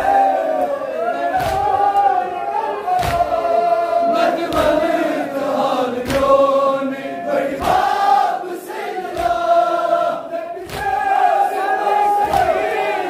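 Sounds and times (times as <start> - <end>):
hands slapping chests in unison: 0.0 - 2.2, 2.8 - 13.0
crowd of men chanting: 0.0 - 13.0.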